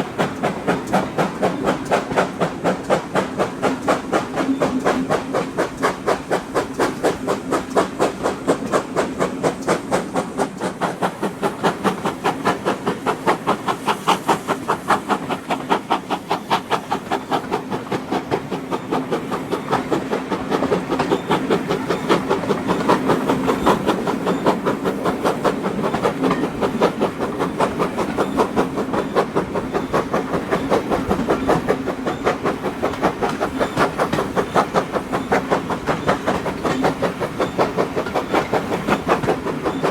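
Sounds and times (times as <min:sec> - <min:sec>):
moving train hum: 0:00.0 - 0:39.9
steam locomotive chuffing: 0:00.0 - 0:39.9.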